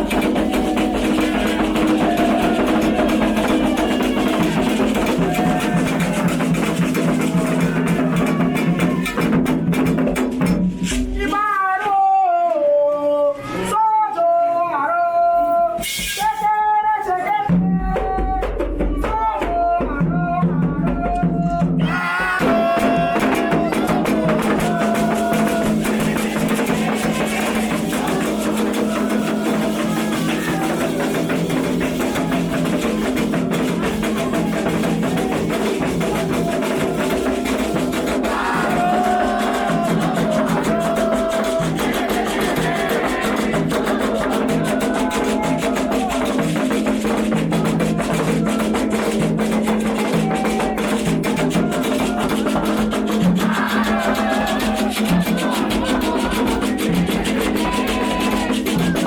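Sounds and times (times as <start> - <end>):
person singing: 0.0 - 9.3, 11.1 - 46.7, 47.5 - 59.0
fast hand drumming: 0.0 - 10.7, 17.6 - 59.0.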